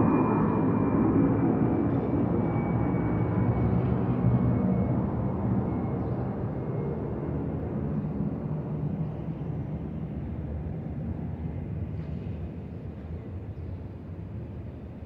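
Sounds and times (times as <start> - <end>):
jet airliner engine rumble: 0.0 - 15.0.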